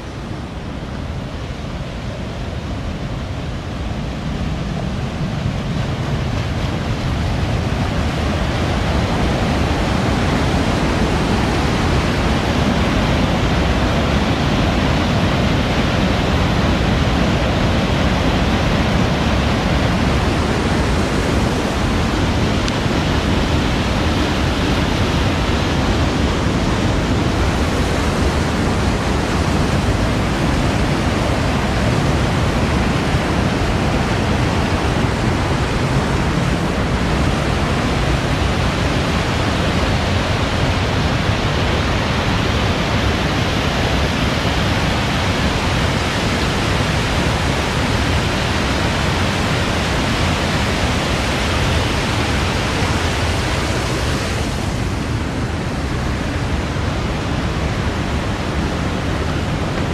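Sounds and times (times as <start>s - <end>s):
white water rushing down channel: 0.0s - 59.9s.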